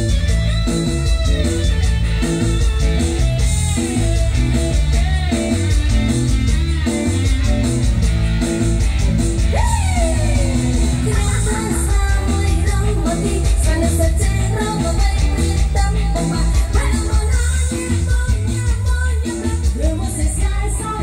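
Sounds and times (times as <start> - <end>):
band music with electric guitar: 0.0 - 21.0.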